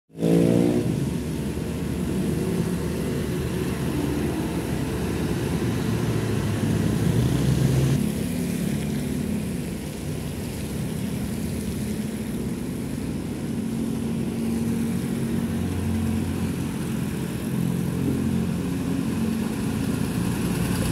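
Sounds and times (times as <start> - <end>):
traffic on wet road: 0.1 - 20.9
motorcycles passing: 0.2 - 20.9
truck diesel engine approaching: 0.2 - 20.9
heavy machine diesel engine: 0.5 - 8.6, 9.7 - 20.9.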